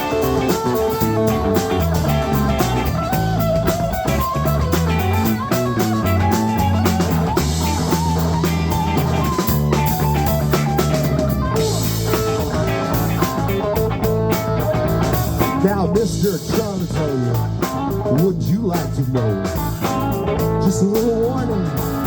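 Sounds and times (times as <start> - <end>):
live rock band instrumental: 0.0 - 22.0.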